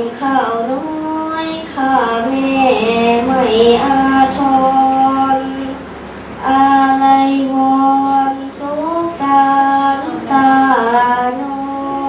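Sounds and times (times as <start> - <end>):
girl singing long notes: 0.0 - 5.8, 6.4 - 12.0.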